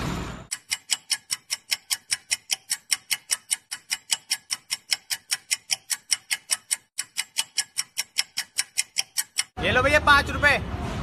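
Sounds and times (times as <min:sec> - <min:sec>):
fast clock ticking: 0:00.5 - 0:09.6.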